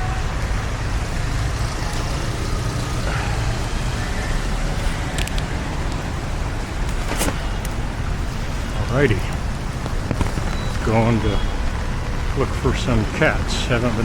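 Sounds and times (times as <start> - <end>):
passing vehicles rumbling: 0.0 - 14.0
tyres hissing on wet road: 0.0 - 14.0.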